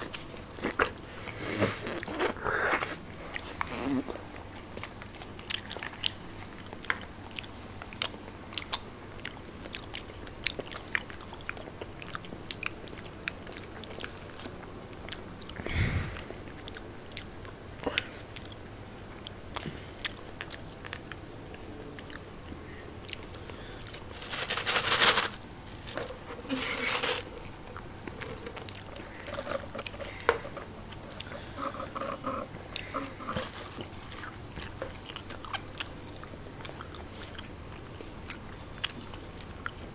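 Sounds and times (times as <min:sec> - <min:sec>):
people chewing crunchy snacks: 0:00.0 - 0:39.9.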